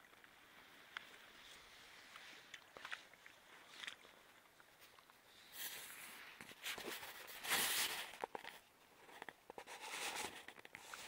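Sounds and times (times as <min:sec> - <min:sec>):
close rustling and crunching: 0:00.1 - 0:11.0.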